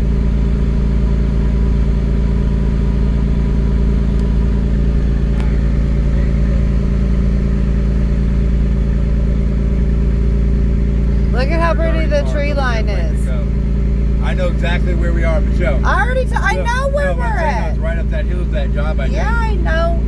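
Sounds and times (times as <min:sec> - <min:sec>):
deep low rumble: 0:00.0 - 0:20.0
engine running: 0:00.0 - 0:20.0.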